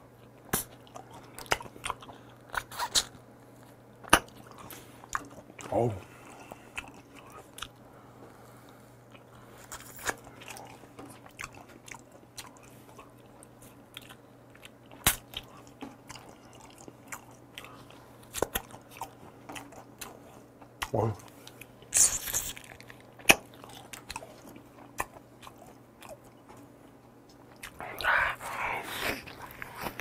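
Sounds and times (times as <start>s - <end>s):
chewing with wet mouth sounds: 0.2s - 30.0s.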